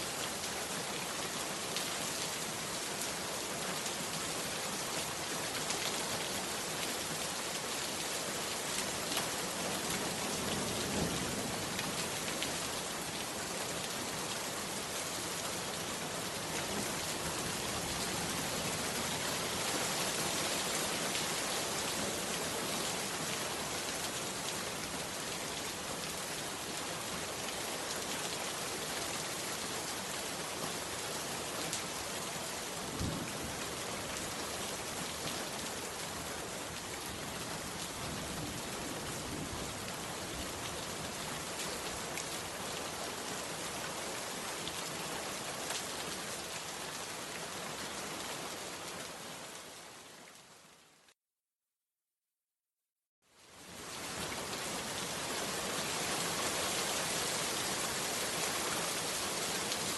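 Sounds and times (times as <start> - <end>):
heavy rain on a hut roof: 0.0 - 51.2, 53.2 - 59.9.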